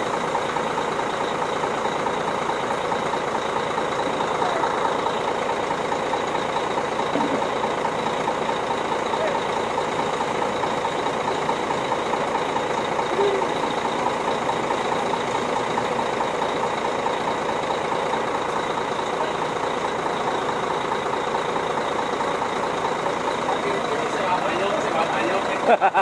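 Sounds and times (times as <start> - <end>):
bus engines idling: 0.0 - 26.0.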